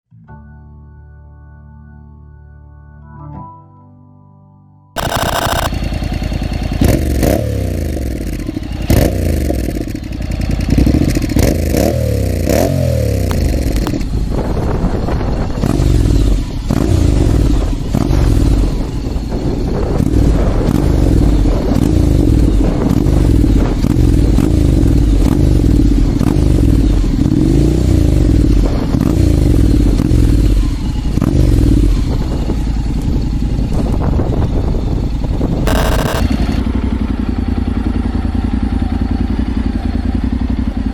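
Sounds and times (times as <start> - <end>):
motorcycle engine revving: 5.0 - 40.9.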